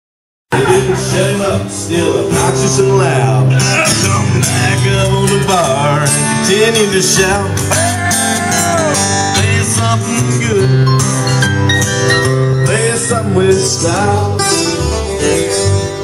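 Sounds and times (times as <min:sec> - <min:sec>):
guitar through small speaker: 0:00.5 - 0:16.0.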